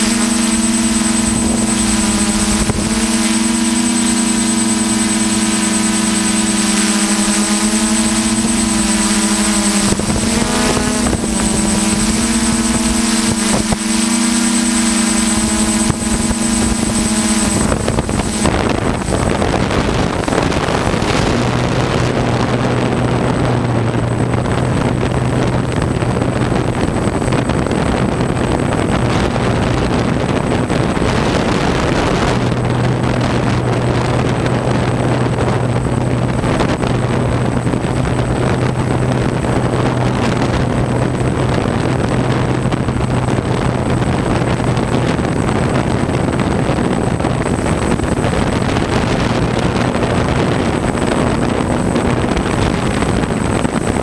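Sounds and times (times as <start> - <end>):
drone motors humming: 0.0 - 54.0
faint high whine: 0.0 - 54.0
propellers rushing: 0.0 - 54.0.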